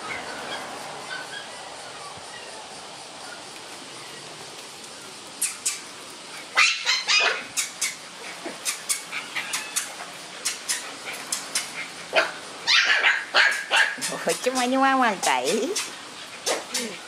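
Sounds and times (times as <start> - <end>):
puppies yipping and barking: 0.0 - 3.4, 5.4 - 14.7, 15.3 - 17.0.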